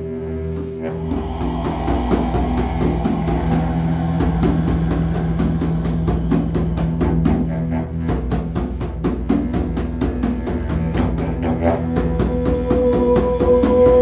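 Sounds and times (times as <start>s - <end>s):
didgeridoo drone: 0.0s - 14.0s.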